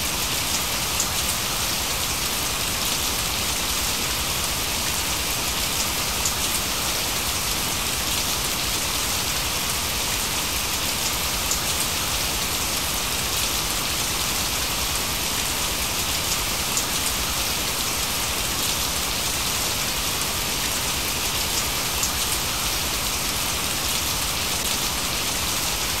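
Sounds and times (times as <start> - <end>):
steady rainfall: 0.0 - 26.0.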